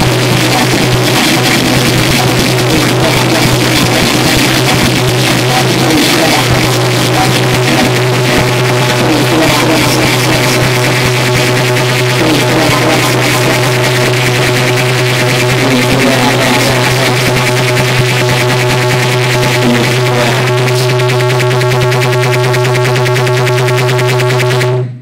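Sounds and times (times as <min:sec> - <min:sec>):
loud distorted electronic music: 0:00.0 - 0:25.0
steady low hum: 0:00.0 - 0:25.0.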